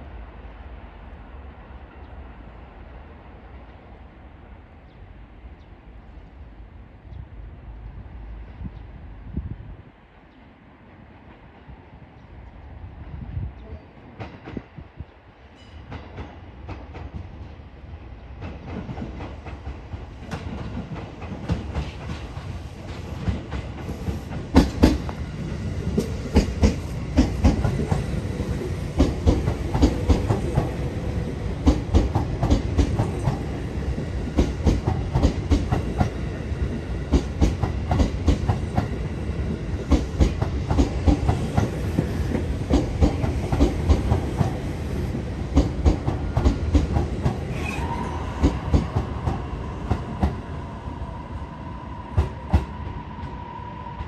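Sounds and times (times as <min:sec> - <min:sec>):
electric train rumble: 0:00.0 - 0:54.0.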